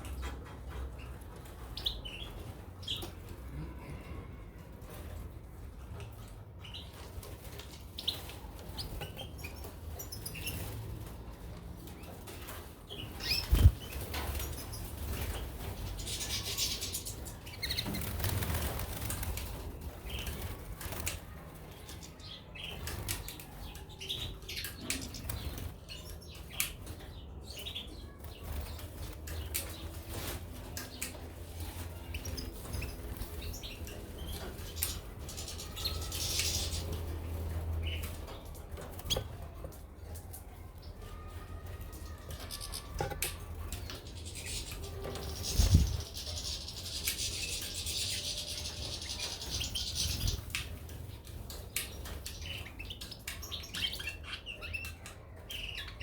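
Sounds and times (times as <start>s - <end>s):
caged birds fluttering: 0.0s - 56.0s.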